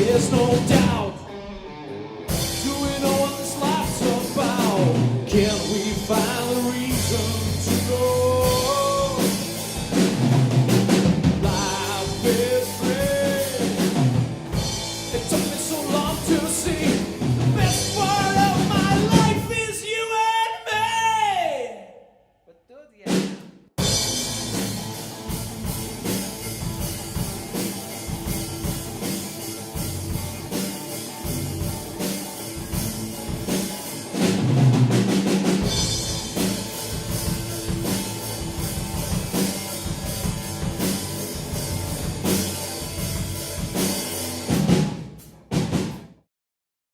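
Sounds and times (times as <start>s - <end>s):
instrumental rock music: 0.0s - 19.8s, 23.1s - 46.2s.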